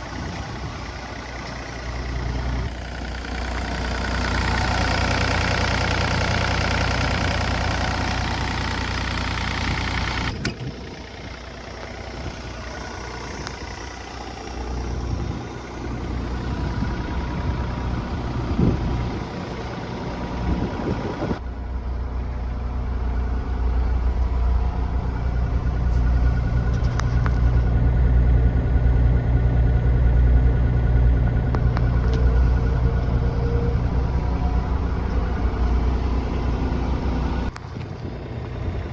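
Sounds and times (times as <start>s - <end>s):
mini excavator diesel engine: 0.0s - 38.9s.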